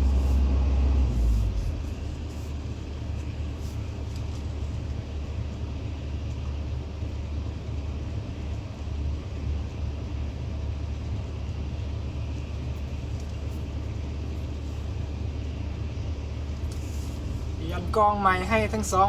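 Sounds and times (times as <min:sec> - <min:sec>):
diesel engine deep rumble: 0:00.0 - 0:19.0.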